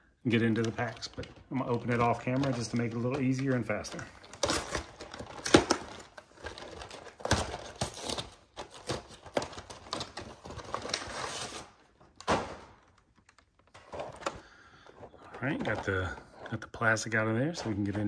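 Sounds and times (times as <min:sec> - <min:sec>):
plastic packaging crinkling: 0:00.3 - 0:16.6.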